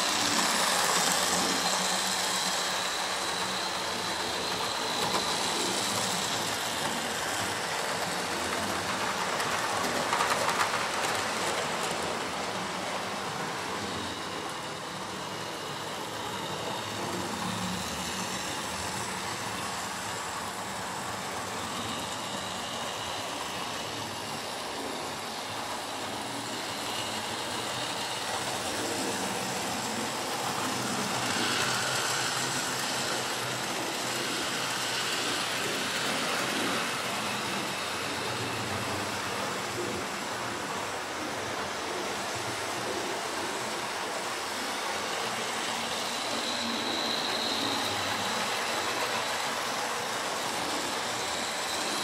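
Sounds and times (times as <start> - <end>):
model train running on track: 0.0 - 52.0.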